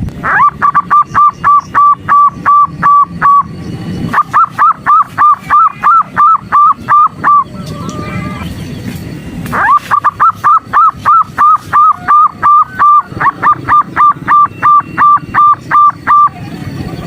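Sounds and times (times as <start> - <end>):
dove calling with hooked notes: 0.0 - 17.0.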